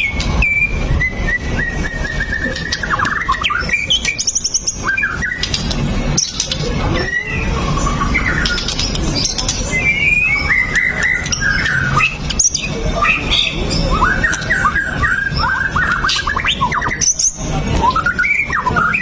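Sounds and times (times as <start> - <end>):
bird singing whistled phrases: 0.0 - 19.0.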